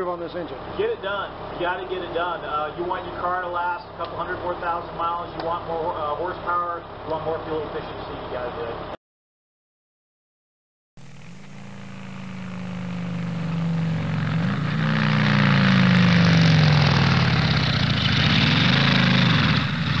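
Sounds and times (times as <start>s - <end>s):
engine running: 0.0s - 9.0s, 11.0s - 20.0s.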